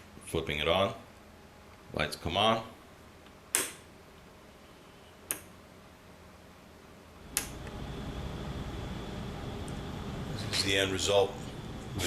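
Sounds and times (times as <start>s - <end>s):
steady low hum and hiss: 0.0s - 12.0s.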